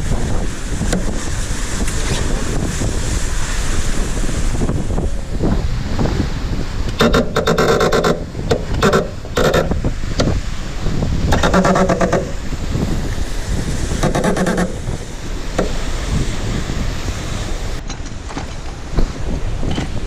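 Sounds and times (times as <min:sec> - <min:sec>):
wind and water rushing: 0:00.0 - 0:20.0
wind buffeting microphone: 0:00.0 - 0:20.0.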